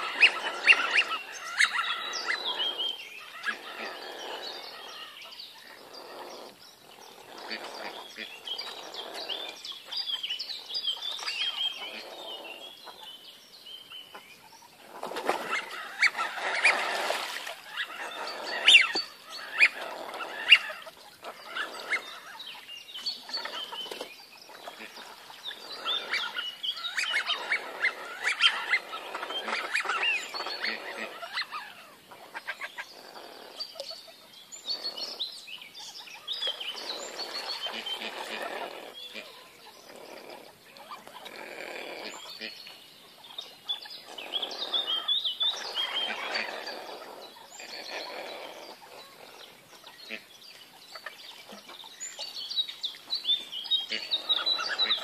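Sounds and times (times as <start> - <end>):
ducks calling and whistling: 0.0 - 13.2, 14.0 - 35.2, 35.8 - 55.0.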